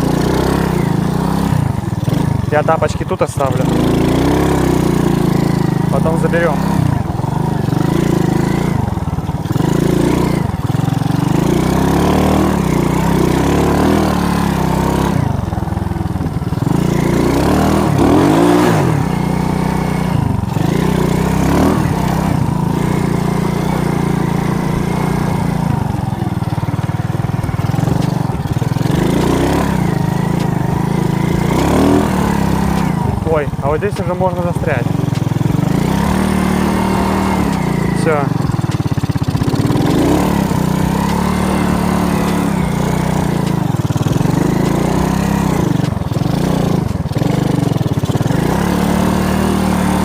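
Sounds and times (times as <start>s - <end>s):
moped engine running: 0.0s - 50.0s.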